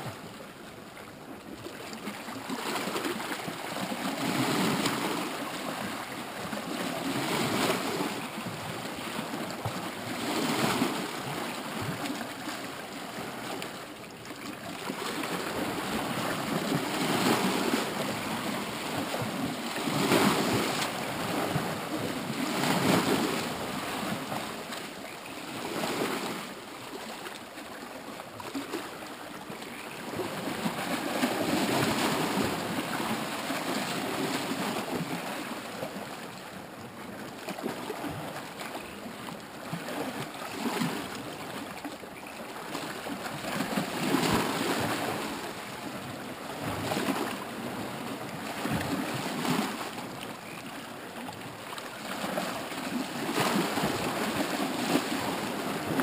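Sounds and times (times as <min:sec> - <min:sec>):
waves splashing against rocks: 0:01.6 - 0:36.4, 0:42.6 - 0:56.0.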